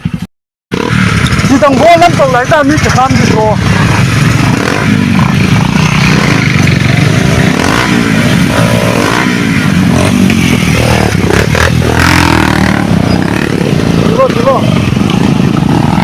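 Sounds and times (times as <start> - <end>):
engine running: 0.0 - 16.0
rushing wind noise: 0.8 - 16.0.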